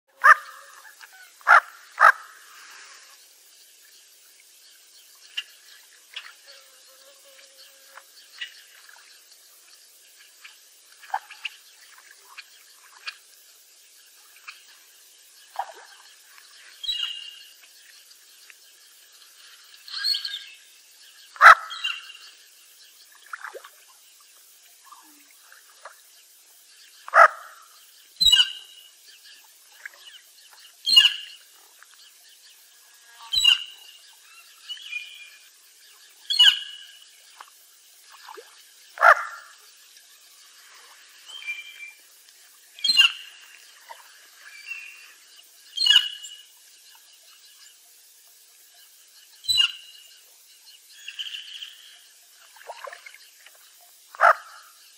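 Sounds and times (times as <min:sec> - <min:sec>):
faint steady hiss: 0:00.1 - 0:54.9.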